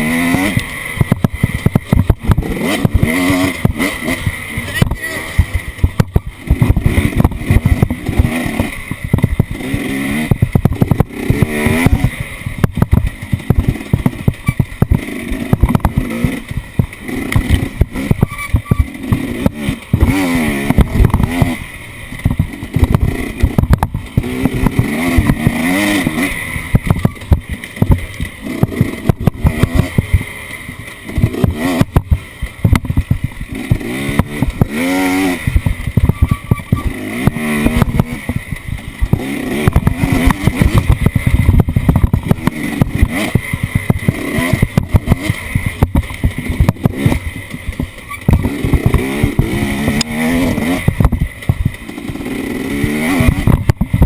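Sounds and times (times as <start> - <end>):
off-road vehicle engine revving: 0.0 - 54.0
knocks and rattles: 0.2 - 54.0.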